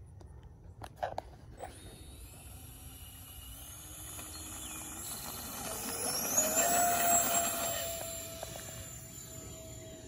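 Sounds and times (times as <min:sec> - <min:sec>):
electric ducted fans whining: 0:00.2 - 0:10.0.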